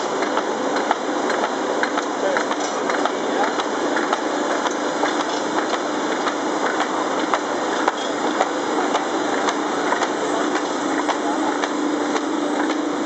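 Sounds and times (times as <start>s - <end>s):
laminating machine humming: 0.0s - 13.0s
machine clicks and ticks: 0.0s - 13.0s.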